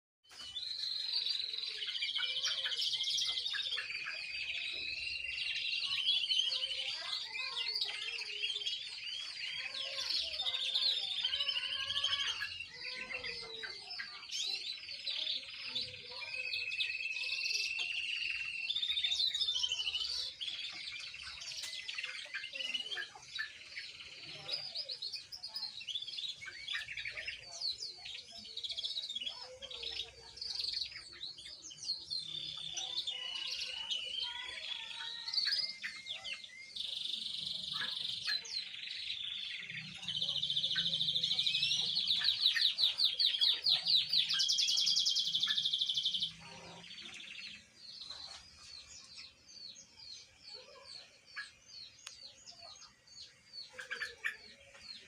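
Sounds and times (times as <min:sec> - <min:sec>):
canary singing trills: 0:00.2 - 0:55.0.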